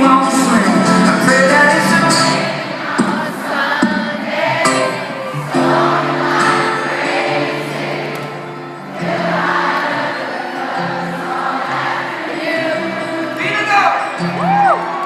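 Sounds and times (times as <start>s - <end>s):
crowd singing along: 0.0s - 15.0s
loud live concert music: 0.0s - 15.0s.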